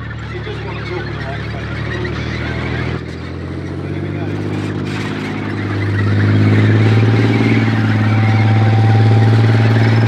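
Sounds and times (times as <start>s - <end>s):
tank engine: 0.0s - 10.0s
tank tracks clattering: 0.0s - 10.0s.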